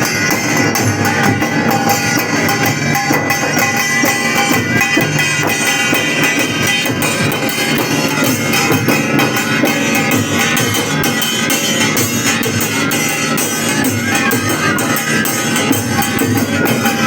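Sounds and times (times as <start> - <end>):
dance music with drum beat: 0.0 - 17.0.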